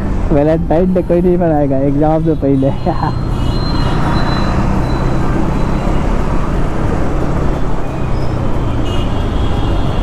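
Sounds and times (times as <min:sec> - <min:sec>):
road and traffic noise: 0:00.0 - 0:10.0.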